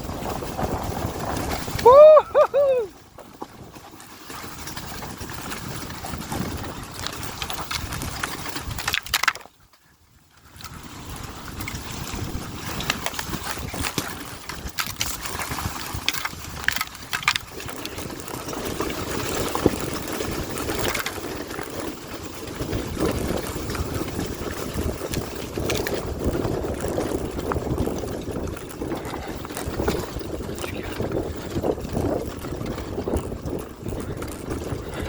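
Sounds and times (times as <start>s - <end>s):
wind rushing over microphone: 0.0s - 3.8s, 4.5s - 8.9s, 10.6s - 35.0s.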